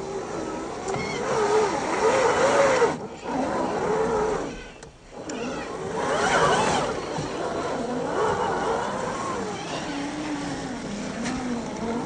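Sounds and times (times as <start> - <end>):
electric motor and gear whine: 0.0 - 12.0.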